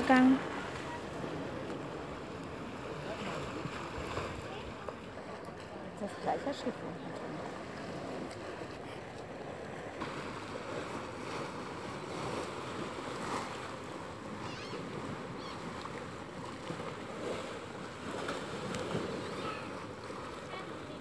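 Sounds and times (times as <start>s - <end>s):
small waves lapping on shore: 0.0s - 21.0s.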